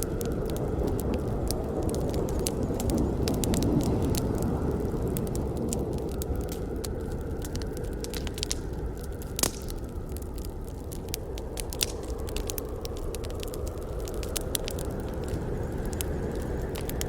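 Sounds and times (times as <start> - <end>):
flame rushing: 0.0 - 17.0
wood crackling and popping: 0.0 - 17.0.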